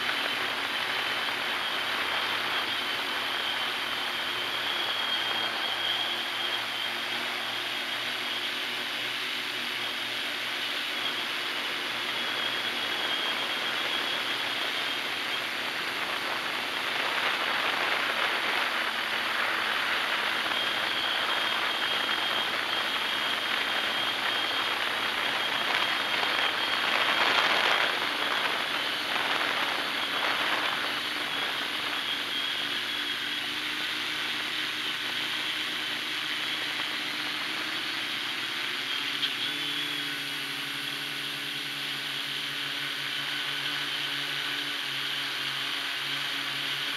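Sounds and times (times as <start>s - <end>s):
drone motors and propellers: 0.0s - 46.9s.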